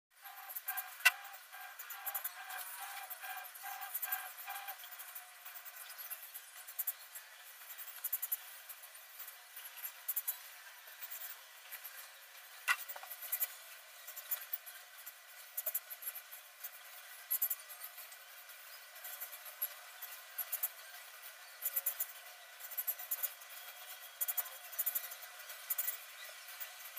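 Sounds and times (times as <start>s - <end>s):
birds scratching and clicking: 0.2s - 26.9s.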